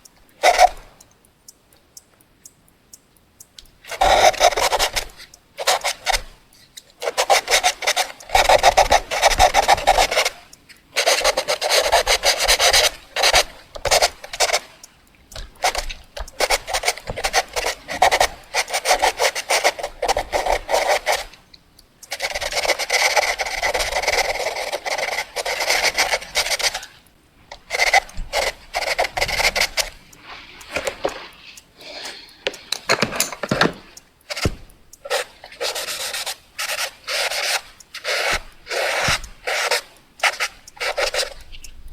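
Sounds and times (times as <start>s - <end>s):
pencil writing on paper: 3.9s - 6.3s, 7.0s - 21.4s, 22.1s - 27.0s, 27.6s - 41.5s.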